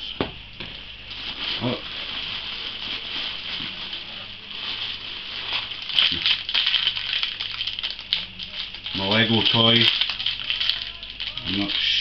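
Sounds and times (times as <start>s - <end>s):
plastic and tissue paper crinkling: 0.7s - 12.0s.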